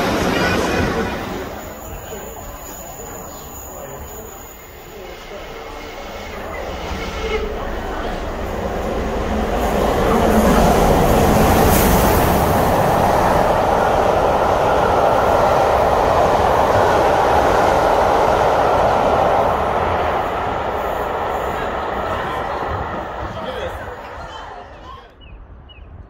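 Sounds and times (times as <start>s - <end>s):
steam train rushing past: 0.0s - 25.1s.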